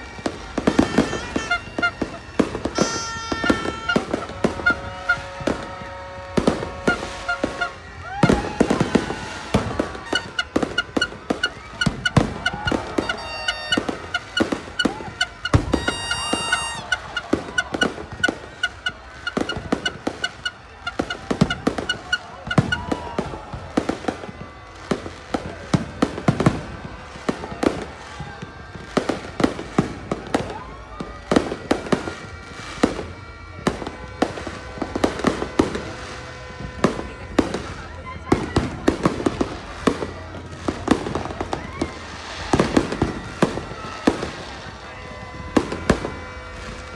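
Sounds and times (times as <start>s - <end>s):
fireworks bangs and pops: 0.0s - 46.9s.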